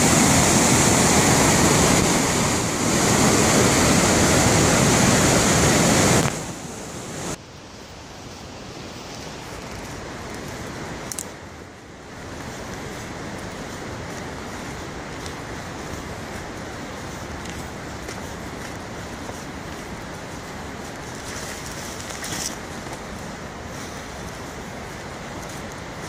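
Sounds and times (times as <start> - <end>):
whitewater rushing through waterfall: 0.0 - 26.0.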